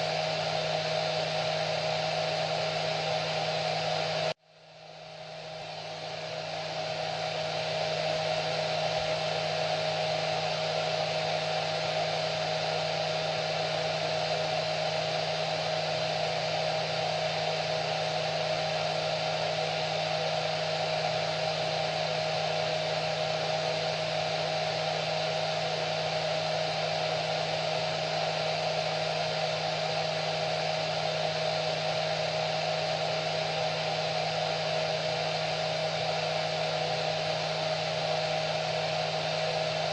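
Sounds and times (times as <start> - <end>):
hair dryer running: 0.0 - 4.4, 5.1 - 39.9.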